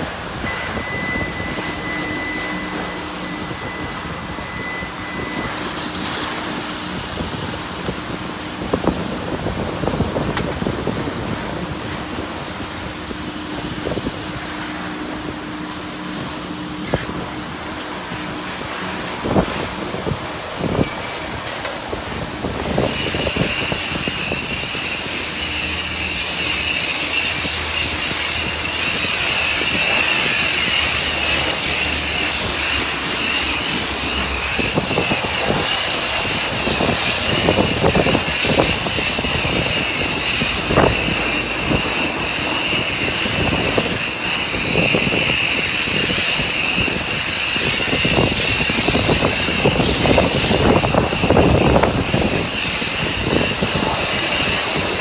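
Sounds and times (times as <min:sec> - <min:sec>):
pressure washer water jet hissing: 0:00.0 - 0:55.0.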